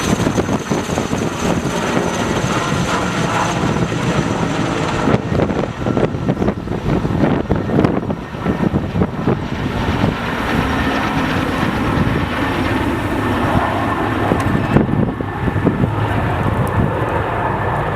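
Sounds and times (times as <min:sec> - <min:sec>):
helicopter rotor and turbine rumble: 0:00.0 - 0:17.9
wind buffeting microphone: 0:00.0 - 0:17.9.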